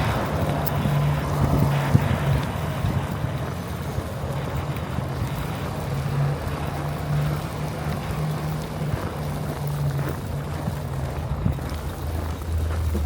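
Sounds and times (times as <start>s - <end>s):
low hum: 0.0s - 13.0s
wind rushing over microphone: 0.0s - 13.0s.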